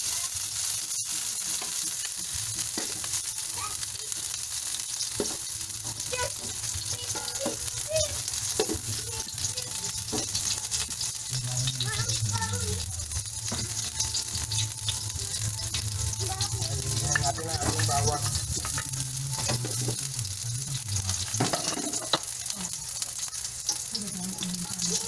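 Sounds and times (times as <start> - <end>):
beans sizzling in a wok: 0.0 - 25.0
clinks and scrapes in a wok: 0.1 - 3.4, 4.2 - 12.0, 13.1 - 25.0.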